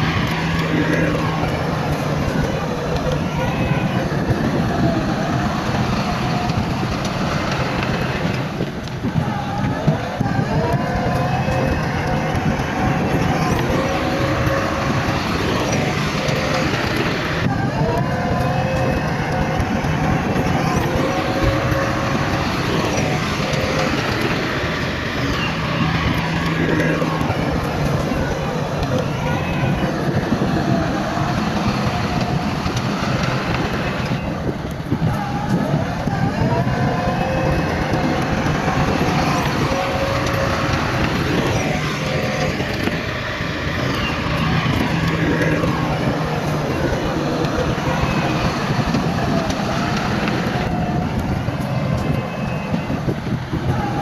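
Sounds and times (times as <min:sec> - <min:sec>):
heavy machinery diesel engines: 0:00.0 - 0:54.0.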